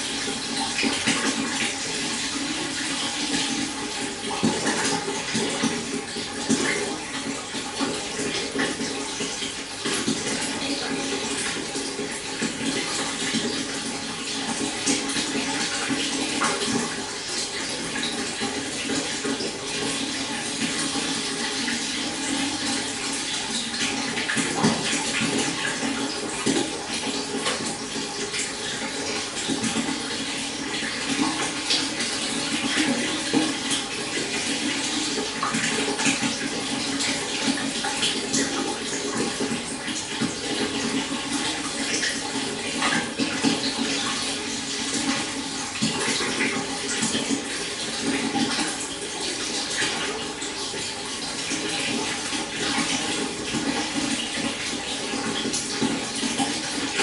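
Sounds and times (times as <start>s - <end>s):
water flowing and splashing: 0.0s - 57.0s.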